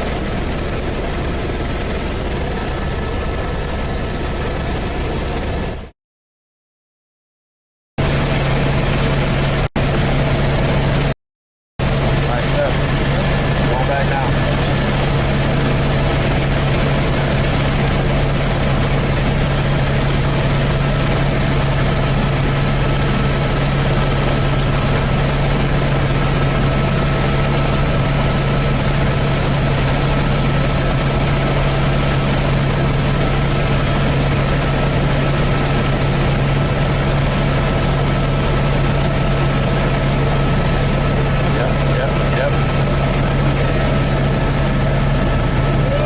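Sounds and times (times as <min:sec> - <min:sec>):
helicopter engine and rotor drone: 0:00.0 - 0:05.9, 0:08.0 - 0:11.2, 0:11.8 - 0:46.0.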